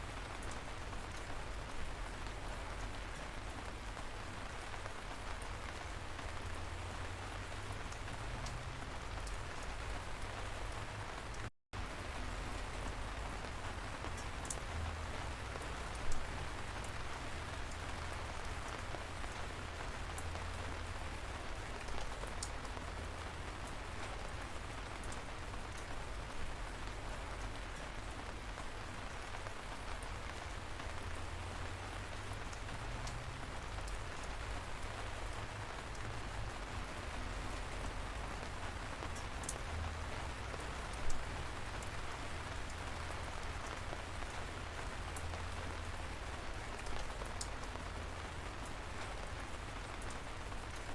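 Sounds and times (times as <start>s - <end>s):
light rain pattering: 0.0s - 50.9s.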